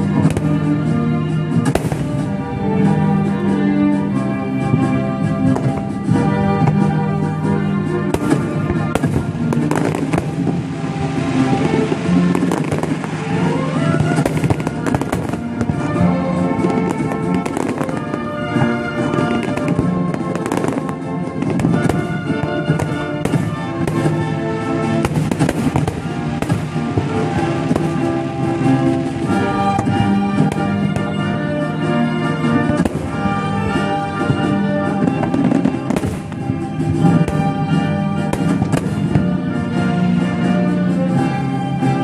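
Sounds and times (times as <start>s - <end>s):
fireworks bursting: 0.0s - 42.0s
music of held notes: 0.0s - 42.0s.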